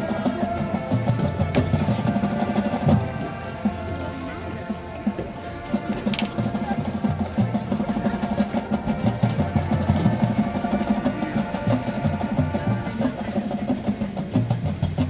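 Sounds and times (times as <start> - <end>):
marching drumline: 0.0 - 15.0
wind and brass chords: 0.0 - 15.0.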